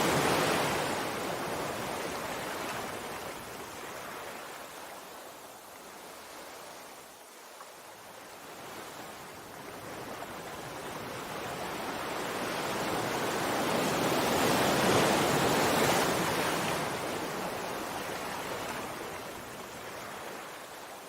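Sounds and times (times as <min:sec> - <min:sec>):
sea surf washing: 0:00.0 - 0:07.1, 0:08.2 - 0:21.0.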